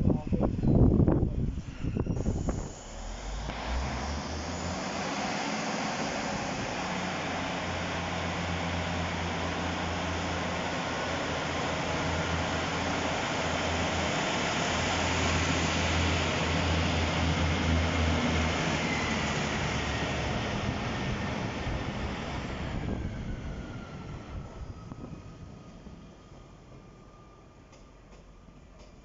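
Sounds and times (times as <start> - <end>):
diesel train engine drone: 0.0 - 29.0
train wheels rumbling on rails: 0.0 - 29.0.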